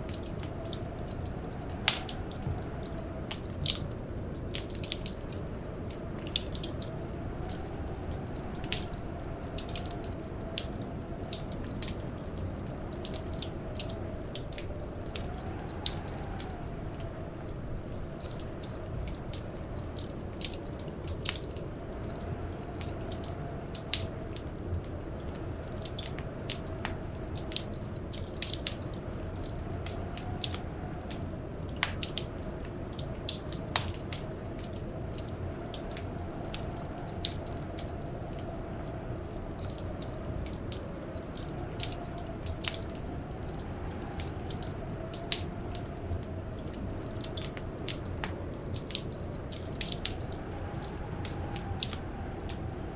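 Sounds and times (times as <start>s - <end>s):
whistling blizzard wind: 0.0s - 52.9s
wood fire crackling: 0.0s - 52.9s.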